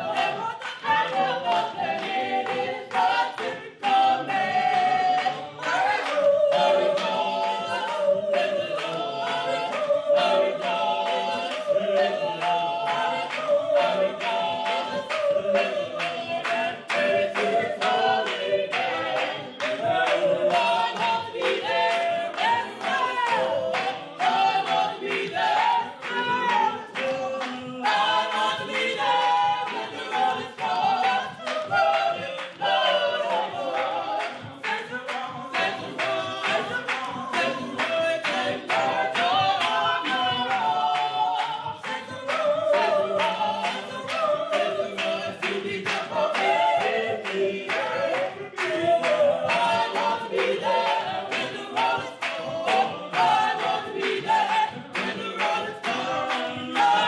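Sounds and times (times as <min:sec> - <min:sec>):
gospel choir singing: 0:00.0 - 0:57.0
hand claps: 0:00.0 - 0:57.0.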